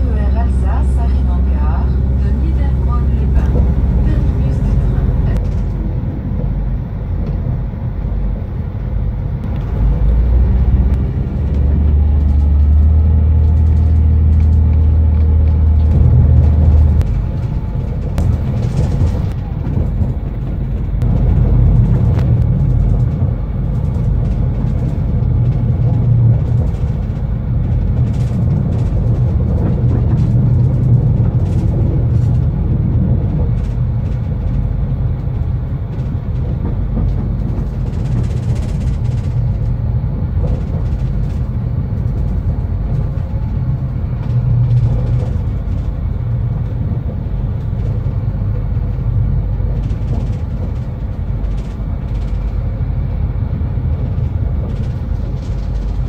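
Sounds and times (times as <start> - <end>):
steady low drone: 0.0 - 56.0
train engine and wheels rumbling: 0.0 - 56.0.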